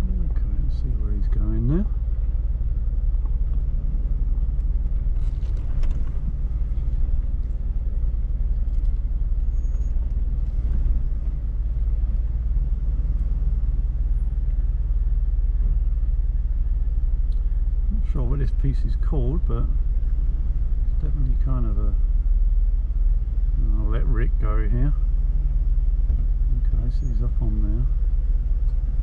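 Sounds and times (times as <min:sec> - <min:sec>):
engine low rumble: 0:00.0 - 0:29.0.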